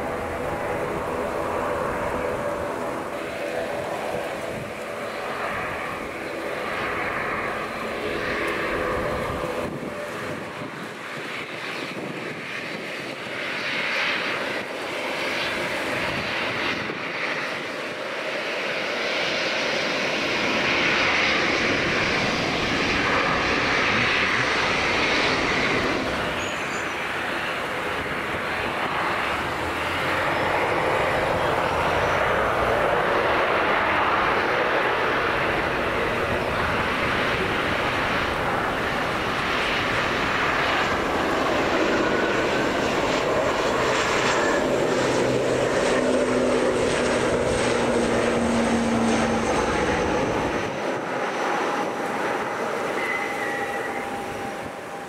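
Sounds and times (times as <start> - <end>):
aircraft engines running: 0.0 - 55.0.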